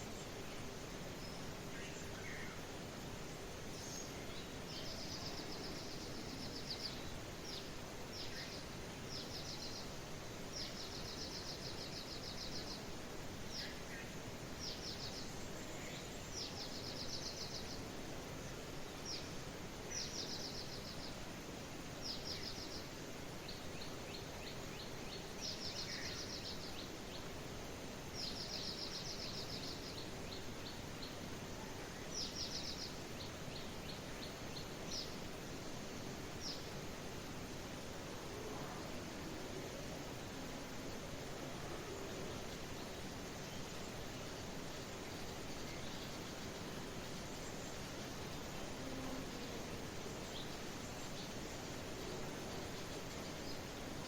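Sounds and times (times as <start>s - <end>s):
background hiss: 0.0s - 54.0s
songbird chirping trill: 0.0s - 54.0s.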